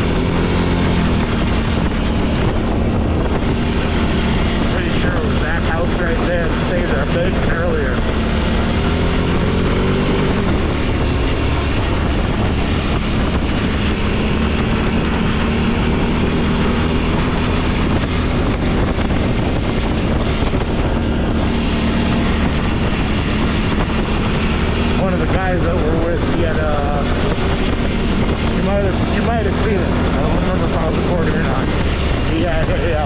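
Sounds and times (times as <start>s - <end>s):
atv engine drone: 0.0s - 33.0s
road noise: 0.0s - 33.0s.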